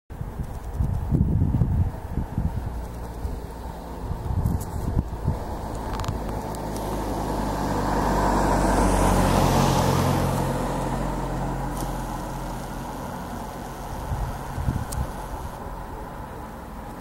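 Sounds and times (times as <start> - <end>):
vehicle passing by: 1.1 - 17.0.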